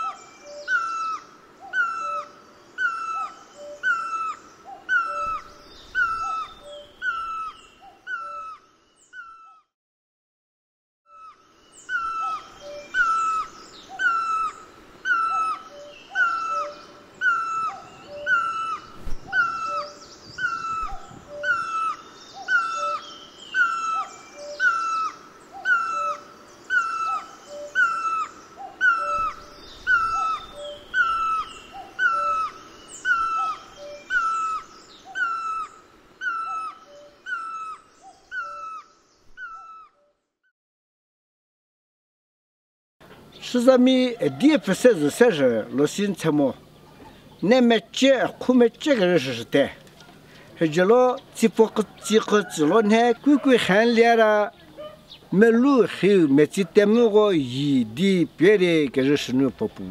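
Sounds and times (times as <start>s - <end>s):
faint birds chirping: 0.0s - 9.7s, 11.1s - 40.4s, 43.0s - 59.9s.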